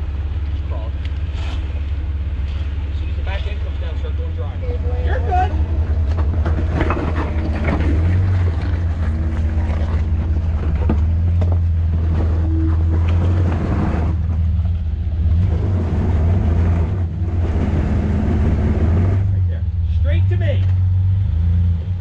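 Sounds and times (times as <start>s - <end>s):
engine running low: 0.0s - 22.0s.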